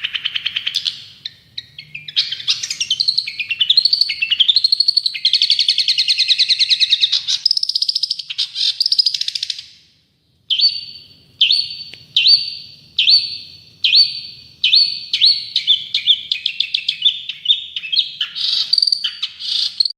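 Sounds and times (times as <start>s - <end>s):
bird singing: 0.0s - 19.9s.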